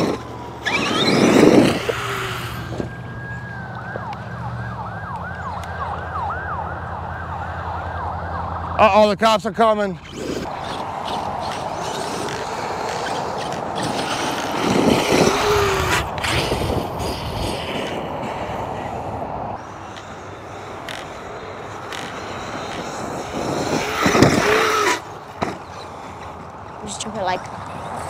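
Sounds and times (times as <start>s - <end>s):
rc truck motor whine: 0.0s - 5.8s, 9.8s - 28.0s.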